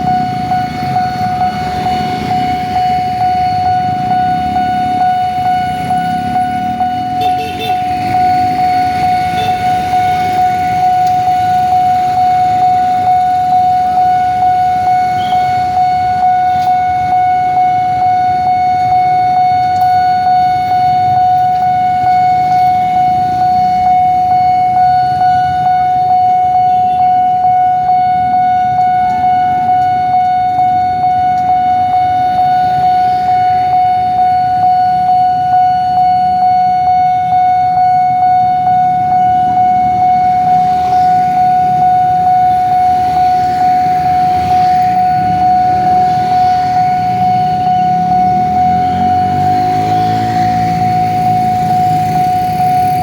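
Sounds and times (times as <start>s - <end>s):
level-crossing siren high tone: 0.0s - 53.0s.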